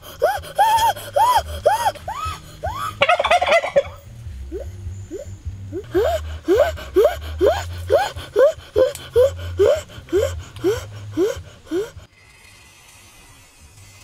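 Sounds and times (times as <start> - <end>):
boy hooting through pursed lips: 0.0 - 12.1.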